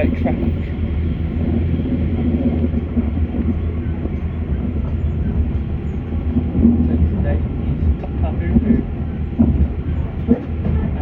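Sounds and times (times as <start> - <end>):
train drive hum: 0.0 - 11.0
wheels rumbling on rail: 0.0 - 11.0.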